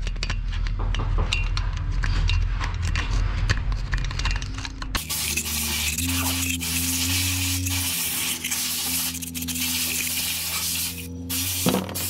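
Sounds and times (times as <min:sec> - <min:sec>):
low hum: 0:00.0 - 0:12.0
small metal parts clinking: 0:00.0 - 0:12.0.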